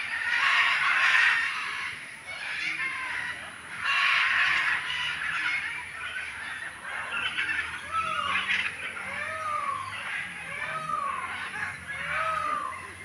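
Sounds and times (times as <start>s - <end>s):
birds squawking: 0.0s - 13.0s.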